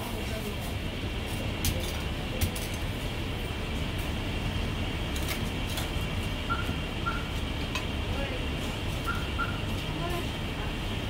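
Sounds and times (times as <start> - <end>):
background rumble and hum: 0.0 - 11.0.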